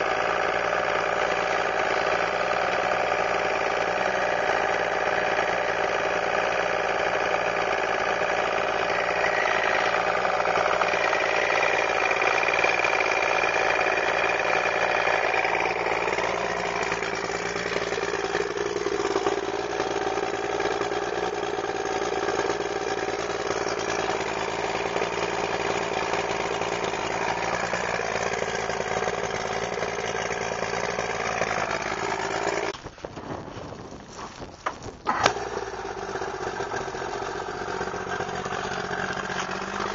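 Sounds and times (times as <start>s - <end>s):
outboard motor running: 0.0s - 32.8s, 34.6s - 39.9s.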